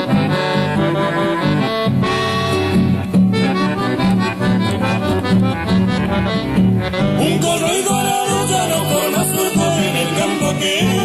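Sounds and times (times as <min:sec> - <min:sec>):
guitar accompaniment: 0:00.0 - 0:11.0
piano accordion melody: 0:00.0 - 0:11.0.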